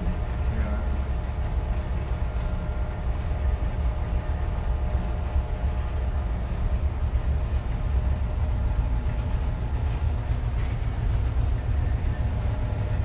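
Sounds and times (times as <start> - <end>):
faint high hum: 0.0 - 13.0
low engine rumble: 0.0 - 13.0.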